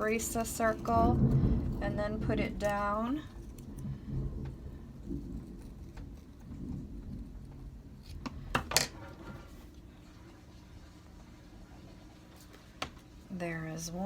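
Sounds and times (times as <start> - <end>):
low rumbling handling noise: 0.0 - 13.5.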